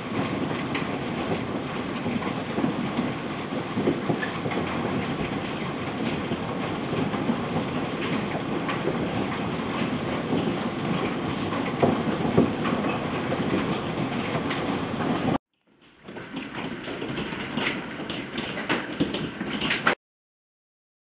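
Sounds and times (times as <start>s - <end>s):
hail and rain on pavement: 0.0s - 20.0s.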